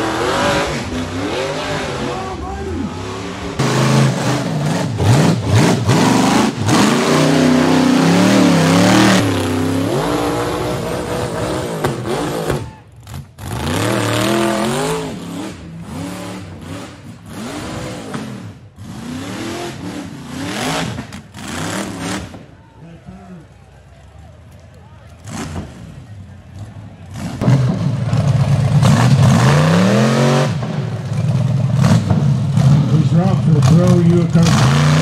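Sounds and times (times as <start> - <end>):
buggy engine revving: 0.0 - 35.0.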